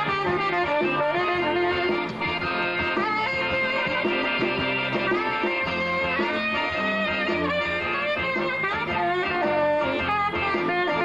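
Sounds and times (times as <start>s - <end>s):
live band playing instrumental: 0.0s - 11.0s.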